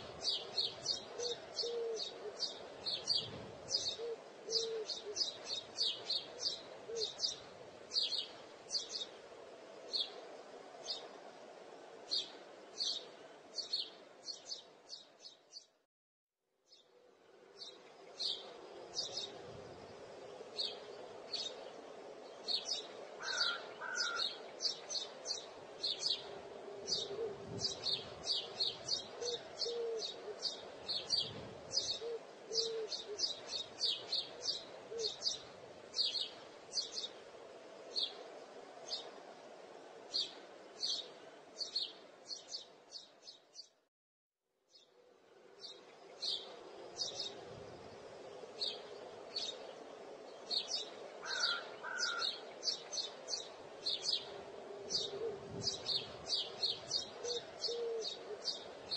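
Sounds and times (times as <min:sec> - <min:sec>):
small birds chirping: 0:00.0 - 0:11.2, 0:12.0 - 0:15.8, 0:17.6 - 0:39.4, 0:40.0 - 0:43.8, 0:45.6 - 0:58.9.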